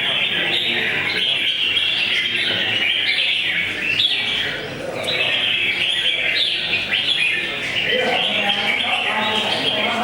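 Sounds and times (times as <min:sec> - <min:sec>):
birds chirping chorus: 0:00.0 - 0:10.0.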